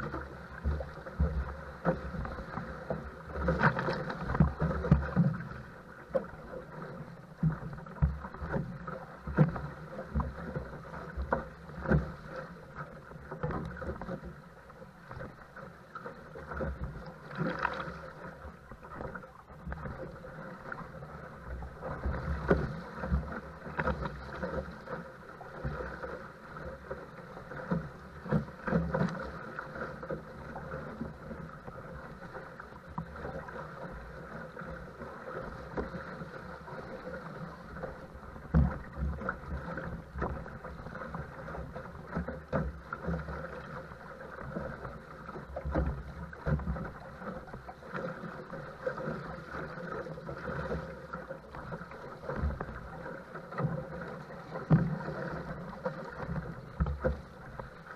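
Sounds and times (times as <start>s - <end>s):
hull thumping on waves: 0.0s - 57.9s
water slapping against boat: 0.0s - 57.9s.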